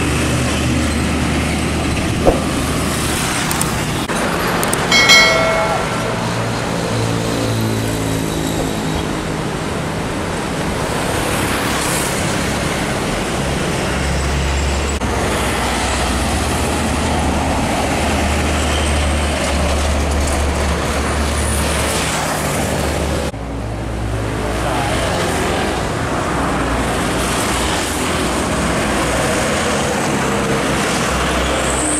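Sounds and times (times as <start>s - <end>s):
highway traffic rushing: 0.0s - 31.9s.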